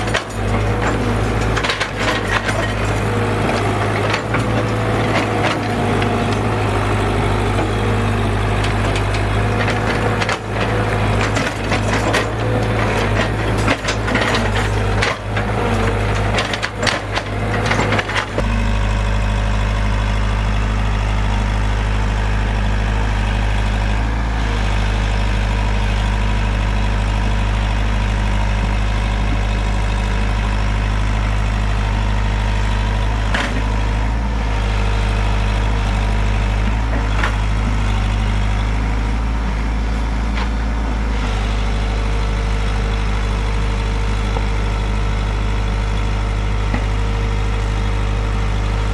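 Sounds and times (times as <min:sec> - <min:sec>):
diesel excavator engine running: 0:00.0 - 0:48.9.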